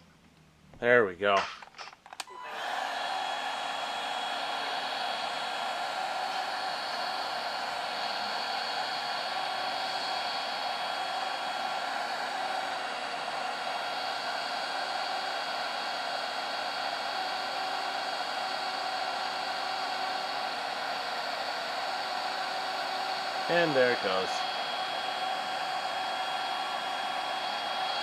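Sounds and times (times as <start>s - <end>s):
heat gun fan whirring: 1.3s - 28.0s.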